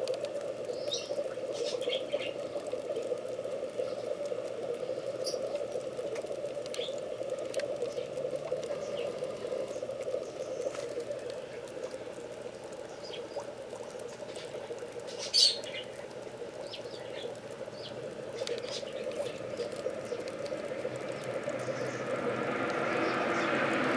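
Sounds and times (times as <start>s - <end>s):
steady hum: 0.0s - 23.9s
small birds chirping: 0.5s - 23.9s.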